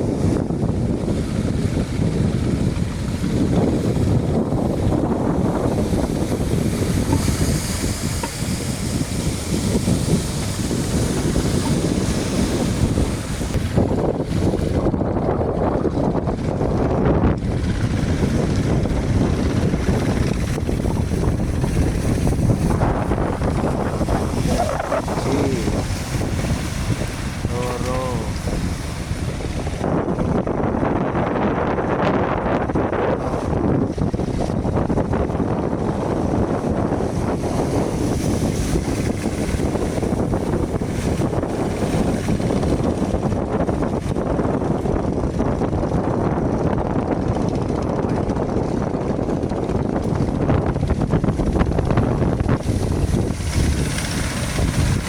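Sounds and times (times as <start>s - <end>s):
surf crashing: 0.0s - 30.4s, 33.1s - 44.9s, 51.4s - 55.0s
motorboat engines: 0.0s - 55.0s
wind buffeting microphone: 0.0s - 55.0s.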